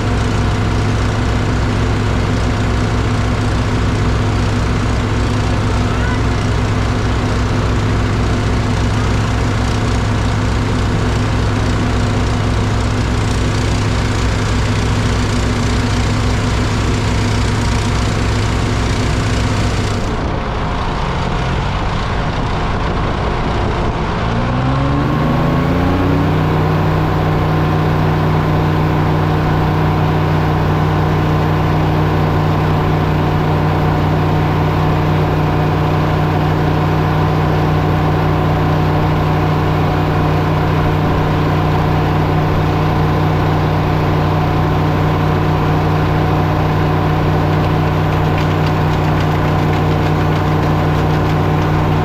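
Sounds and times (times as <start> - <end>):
engine speeding up: 0.0 - 52.0.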